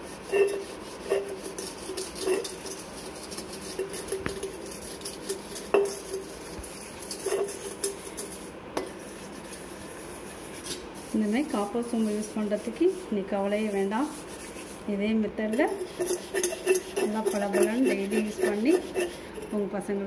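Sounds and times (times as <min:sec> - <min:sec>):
scrubbing metal pot: 0:00.0 - 0:19.7.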